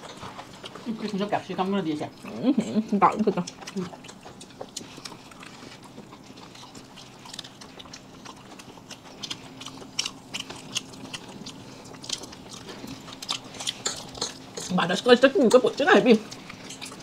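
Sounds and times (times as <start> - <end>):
people chewing and lip smacking: 0.0 - 17.0.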